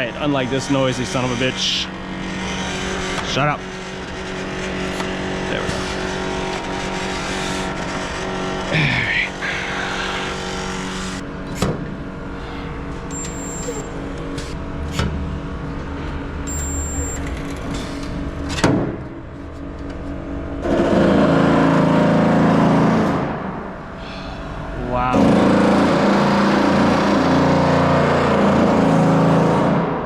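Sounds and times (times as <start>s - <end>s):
harsh loud machine noise: 0.0s - 30.0s
machine hum: 0.0s - 30.0s.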